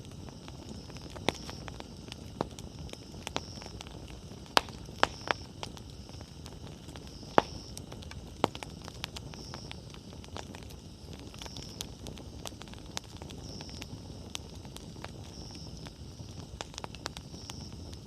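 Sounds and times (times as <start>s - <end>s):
campfire burning low rush: 0.0s - 18.0s
firewood crackles and pops: 0.0s - 18.0s.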